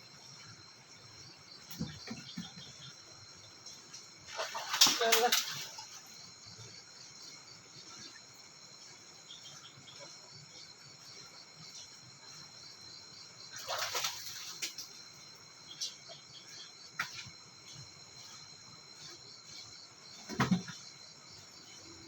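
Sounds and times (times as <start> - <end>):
crickets and insects chirring: 0.0 - 22.0.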